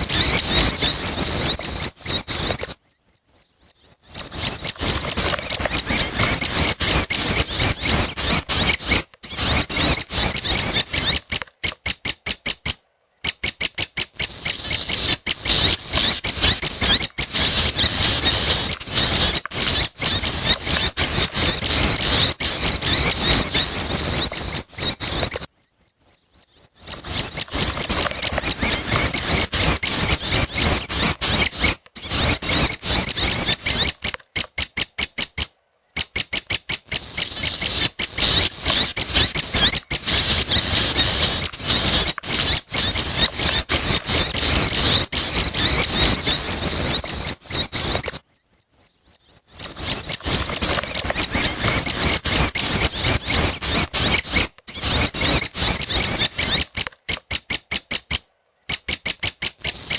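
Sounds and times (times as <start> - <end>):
young birds squeaky begging chirps: 0.0 - 59.9.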